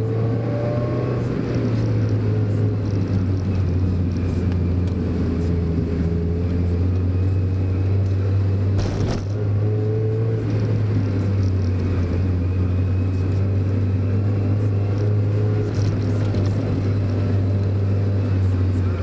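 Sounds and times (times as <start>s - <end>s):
car engine running: 0.0s - 19.0s
road noise: 0.0s - 19.0s.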